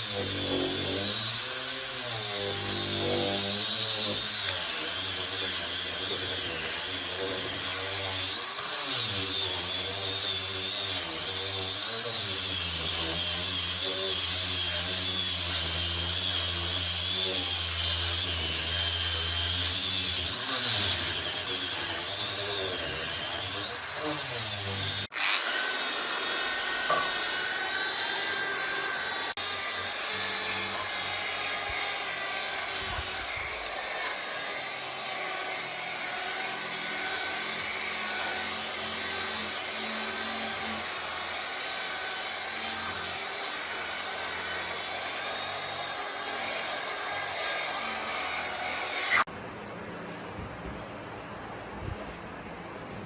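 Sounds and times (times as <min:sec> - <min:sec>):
power tool working wood: 0:00.0 - 0:49.3.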